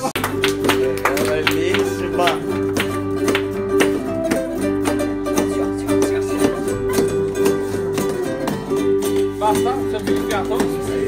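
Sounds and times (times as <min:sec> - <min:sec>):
ukulele strumming: 0:00.0 - 0:11.0.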